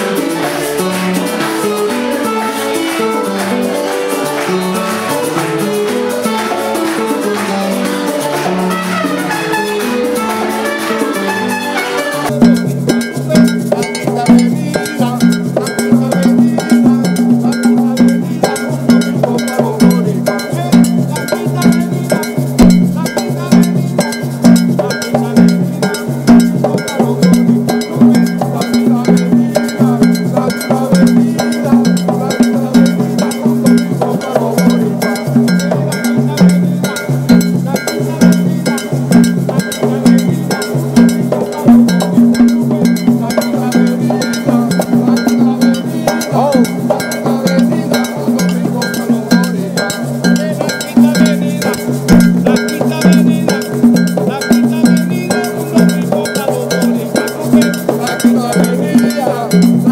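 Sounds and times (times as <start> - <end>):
hand drums in repeating rhythm: 0.0 - 59.9.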